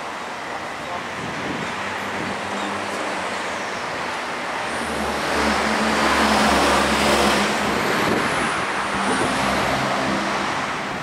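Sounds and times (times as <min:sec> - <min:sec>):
passenger train rolling: 0:00.0 - 0:11.0.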